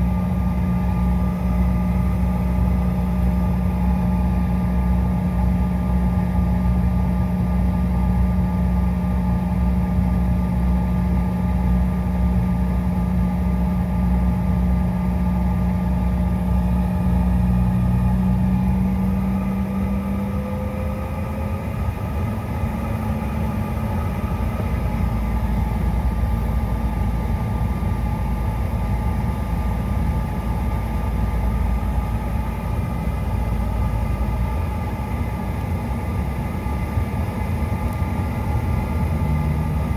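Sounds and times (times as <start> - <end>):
jet engine cabin rumble and whine: 0.0 - 39.9.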